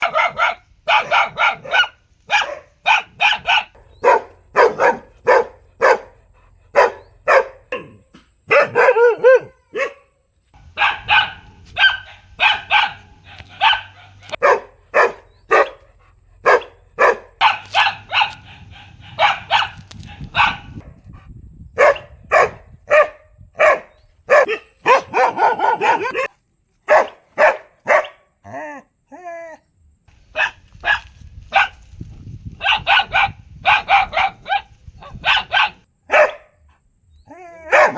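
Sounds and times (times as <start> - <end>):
dog barking: 0.0 - 20.9, 21.8 - 26.3, 26.9 - 28.3, 30.3 - 31.8, 32.6 - 36.6, 37.6 - 37.9.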